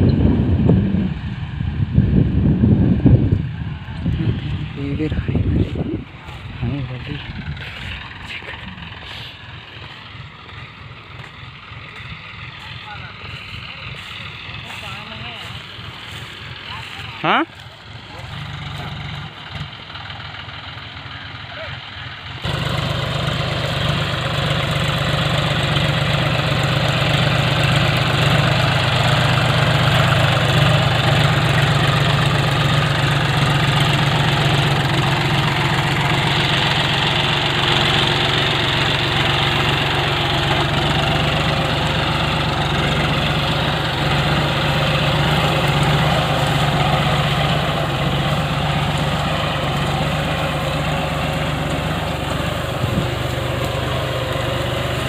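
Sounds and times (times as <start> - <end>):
ploughing machine engine running: 3.8 - 55.0.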